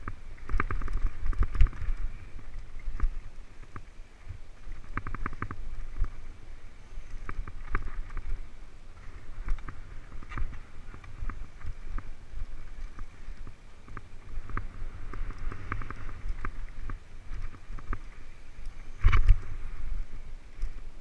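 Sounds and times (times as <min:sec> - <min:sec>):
bike rattling over rough ground: 0:00.0 - 0:21.0
wind rumble on microphone: 0:00.0 - 0:21.0.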